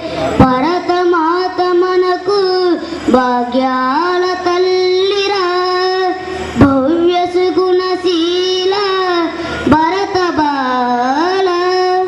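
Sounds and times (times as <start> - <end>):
boy singing into microphone: 0.0 - 12.0.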